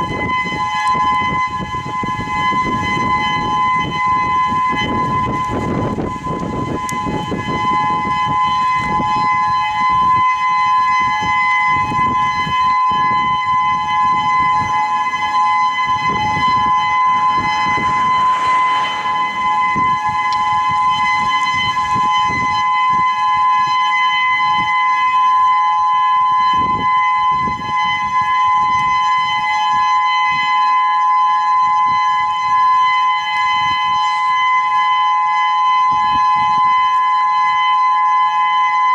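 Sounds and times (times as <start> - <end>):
warning siren steady alert tone: 0.0 - 38.9.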